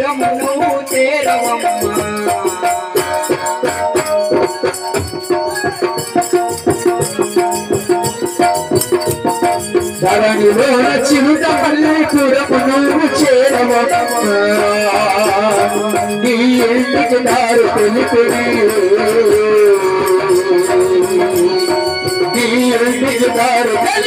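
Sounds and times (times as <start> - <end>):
hand drum: 0.0 - 24.0
jingling hand cymbals: 0.0 - 24.0.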